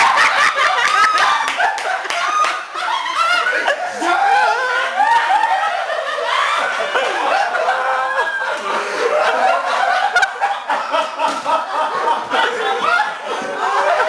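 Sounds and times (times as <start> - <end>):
people laughing hard: 0.0 - 14.0.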